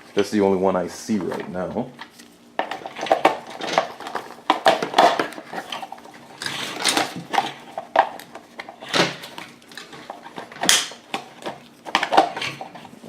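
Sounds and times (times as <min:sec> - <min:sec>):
plastic and metal parts clattering: 0:01.1 - 0:13.0.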